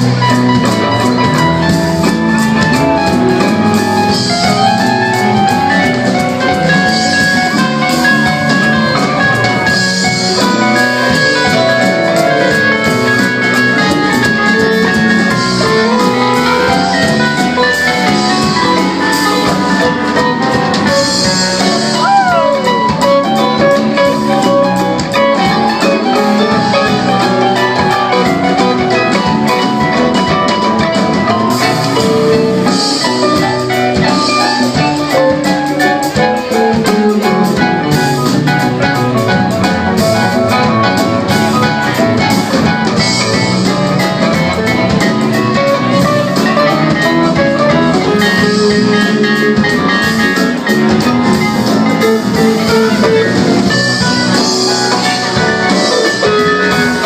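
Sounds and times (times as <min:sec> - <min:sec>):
drums: 0:00.0 - 0:57.0
electric guitar: 0:00.0 - 0:57.0
rock band playing live: 0:00.0 - 0:57.0.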